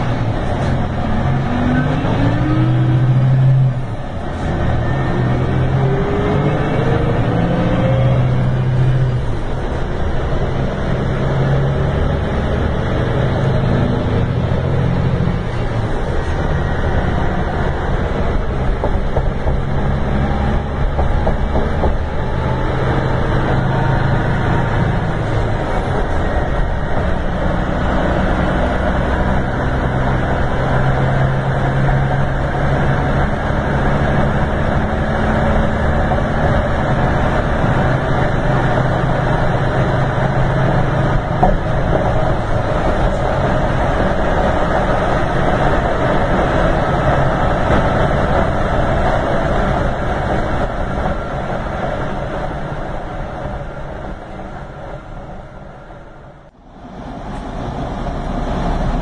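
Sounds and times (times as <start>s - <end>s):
bus engine humming: 0.0s - 59.0s.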